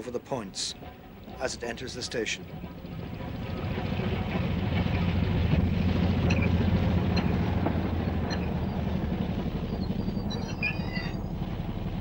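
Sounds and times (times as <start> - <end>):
diesel railcar engine rumble: 0.0 - 12.0.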